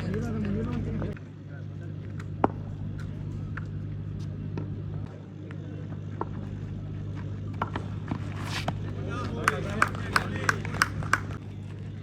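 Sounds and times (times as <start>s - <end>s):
steady low hum: 0.0s - 12.0s
voices: 0.0s - 12.0s.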